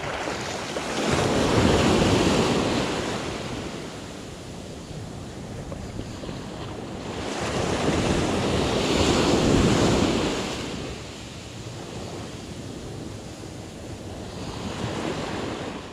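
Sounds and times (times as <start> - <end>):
ocean surf washing on beach: 0.0 - 15.9.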